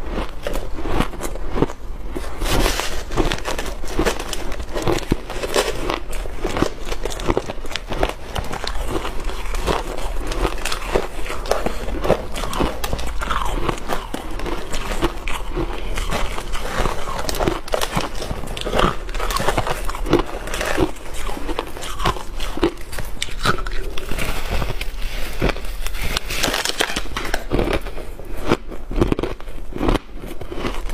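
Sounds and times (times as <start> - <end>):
ice crunching: 1.6 - 27.9.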